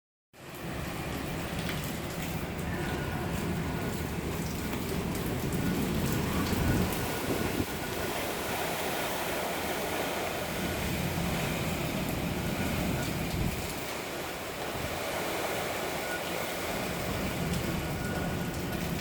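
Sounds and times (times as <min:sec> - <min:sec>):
wind and rain rushing: 0:00.4 - 0:19.0.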